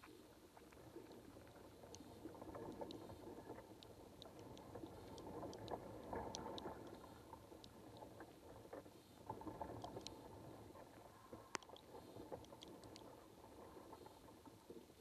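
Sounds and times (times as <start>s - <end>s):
small scattered clicks: 0.0s - 15.0s
underwater water noise: 0.0s - 15.0s.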